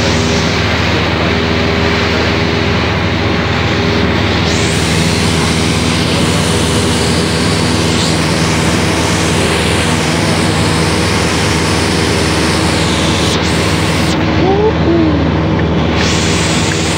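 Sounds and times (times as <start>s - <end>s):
airplane engine and propeller drone: 0.0s - 16.9s.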